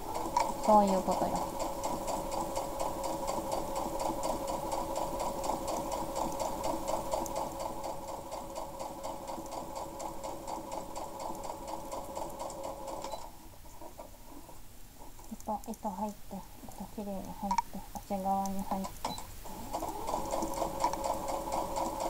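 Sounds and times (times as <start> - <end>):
sewing machine stitching: 0.0 - 15.4, 18.8 - 22.0.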